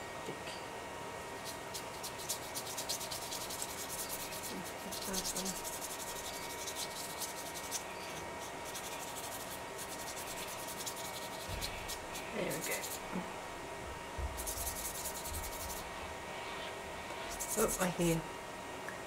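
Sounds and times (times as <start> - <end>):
paintbrush stroking on paper: 1.4 - 13.1, 14.4 - 18.2.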